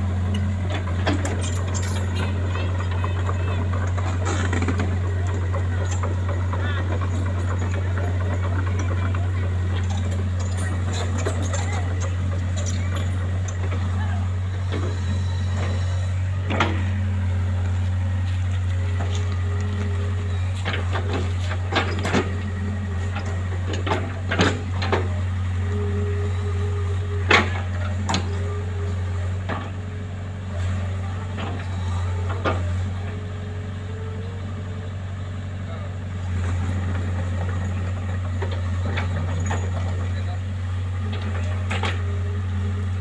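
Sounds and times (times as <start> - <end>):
engine humming steadily: 0.0 - 43.0.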